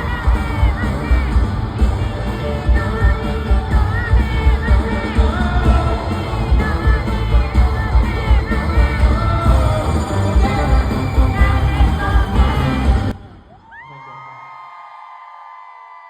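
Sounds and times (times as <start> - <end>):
band with heavy bass beat: 0.0 - 13.2
man singing: 0.0 - 13.4.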